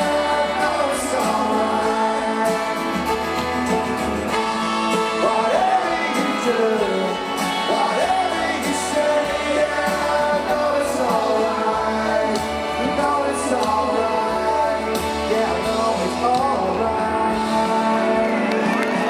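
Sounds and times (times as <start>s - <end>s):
person singing: 0.0s - 3.4s, 4.3s - 19.0s
live rock band playing: 0.0s - 19.0s.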